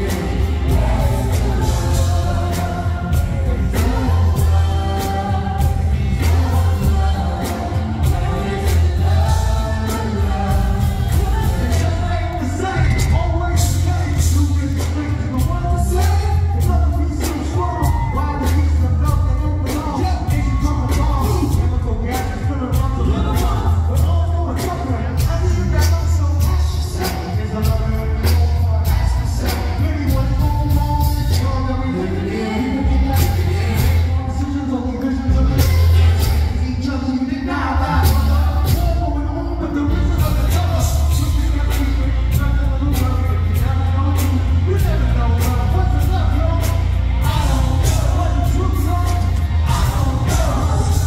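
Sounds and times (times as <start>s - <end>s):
beat with heavy bass: 0.0s - 36.9s, 37.8s - 51.0s
people singing and rapping: 0.0s - 51.0s.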